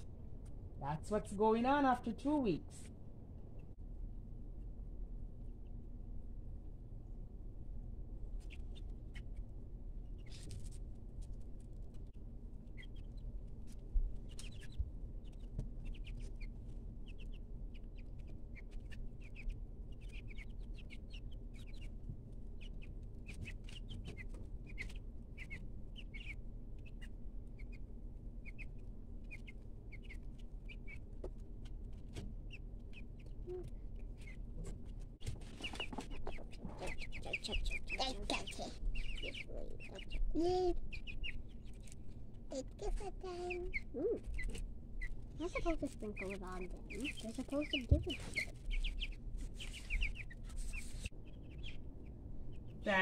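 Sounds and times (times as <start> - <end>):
low steady hum: 0.0 - 53.0
chicks peeping: 8.0 - 53.0.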